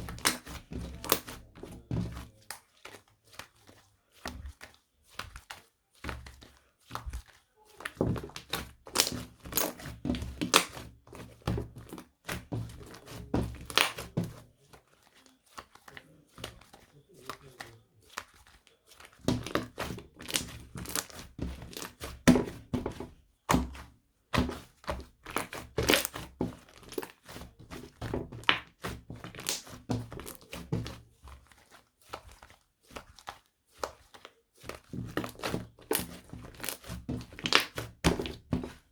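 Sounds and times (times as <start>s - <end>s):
hands squishing sticky slime: 0.0s - 38.9s.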